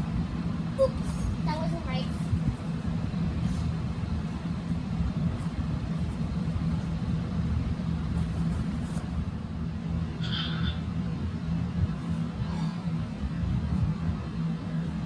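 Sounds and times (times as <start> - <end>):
constant low hum: 0.0 - 15.0
low outdoor rumble: 0.0 - 15.0.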